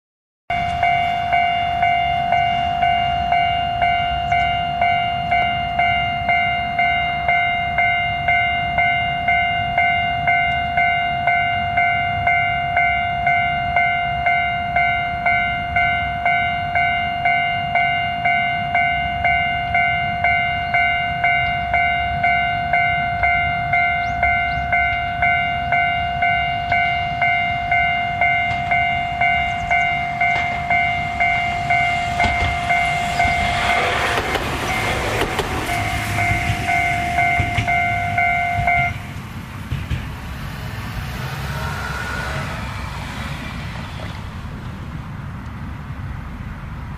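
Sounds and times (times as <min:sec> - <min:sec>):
level-crossing warning bell: 0:00.5 - 0:43.9
electric train running: 0:00.6 - 0:45.9.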